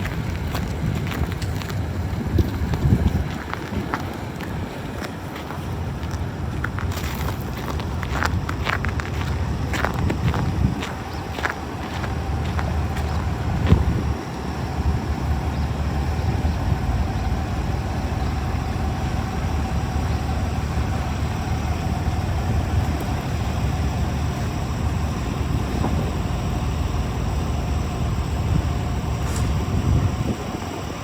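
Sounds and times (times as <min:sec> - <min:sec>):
city traffic rumble: 0:00.0 - 0:31.0.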